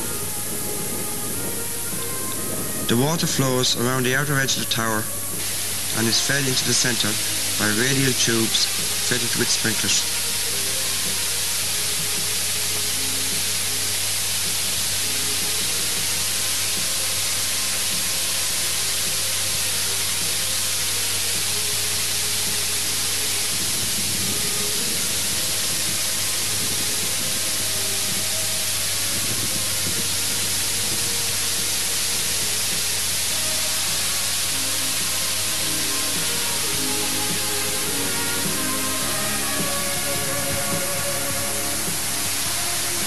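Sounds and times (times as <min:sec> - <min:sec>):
falling water hissing: 0:00.0 - 0:43.0.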